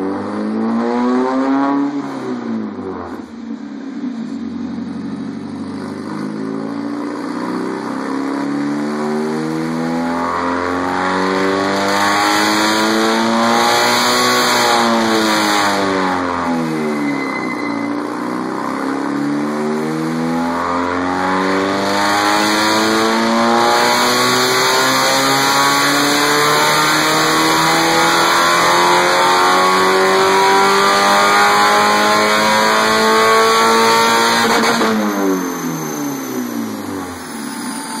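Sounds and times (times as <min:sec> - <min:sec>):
car engine revving up: 0:00.0 - 0:38.0.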